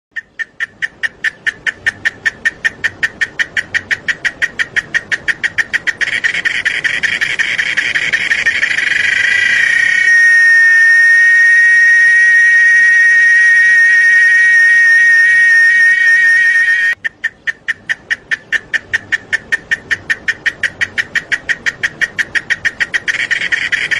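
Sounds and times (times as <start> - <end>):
cicada calling: 0.2 - 23.9.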